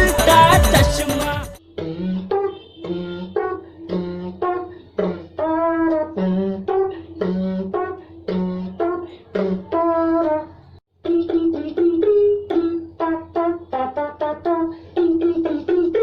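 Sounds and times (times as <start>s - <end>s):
person beatboxing hummed music: 0.0s - 16.0s.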